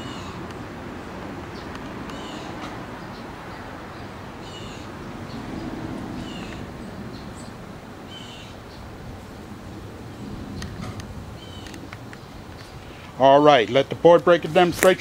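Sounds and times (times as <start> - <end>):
birds chirping: 0.0 - 15.0
low background noise: 0.0 - 15.0.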